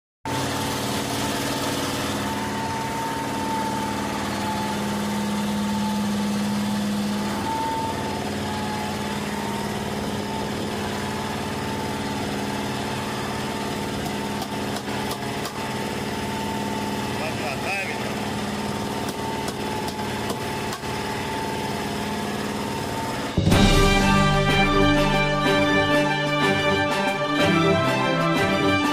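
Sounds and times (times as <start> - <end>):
boat engine running: 0.3 - 28.9.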